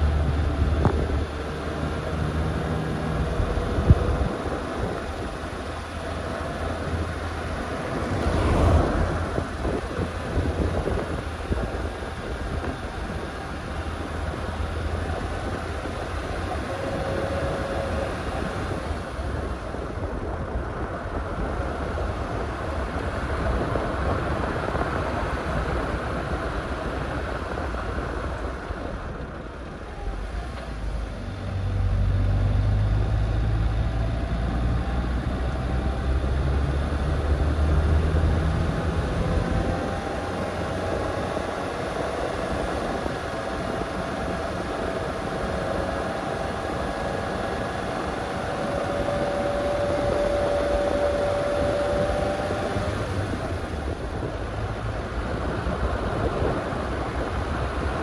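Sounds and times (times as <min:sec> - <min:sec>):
oncoming car passing: 0:00.0 - 0:20.4, 0:21.0 - 0:58.0
car driving on road: 0:00.0 - 0:58.0
wind on microphone: 0:00.0 - 0:58.0.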